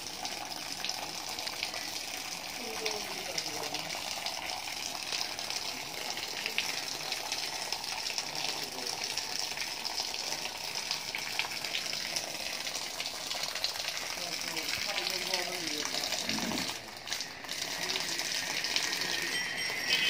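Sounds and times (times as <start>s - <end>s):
cow urinating onto floor: 0.0s - 20.0s.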